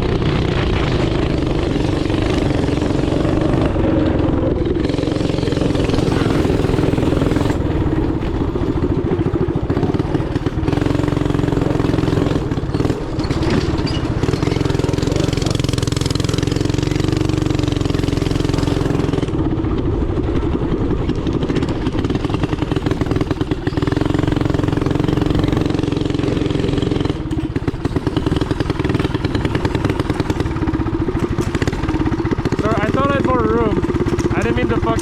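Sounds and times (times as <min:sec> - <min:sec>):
small gas engine running hard: 0:00.0 - 0:35.0.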